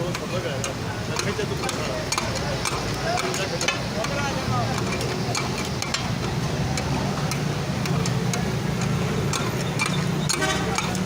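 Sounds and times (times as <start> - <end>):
sharp metal clicks and taps: 0.0 - 11.0.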